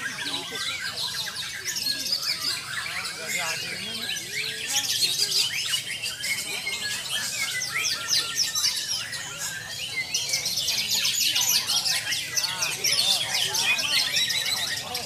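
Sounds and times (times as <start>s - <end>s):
other songbirds chirping: 0.0s - 15.0s
songbird singing chirps and trills: 0.0s - 15.0s.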